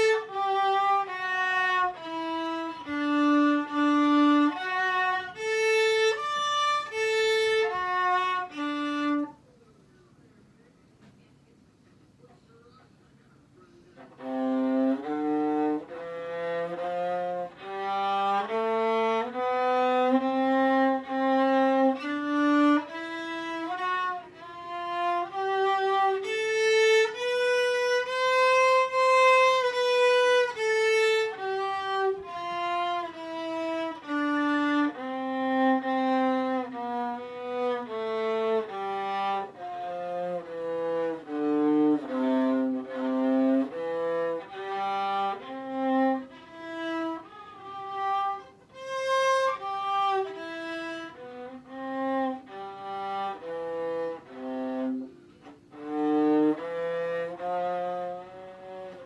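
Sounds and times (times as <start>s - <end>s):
solo violin melody: 0.0s - 9.6s, 13.8s - 59.0s.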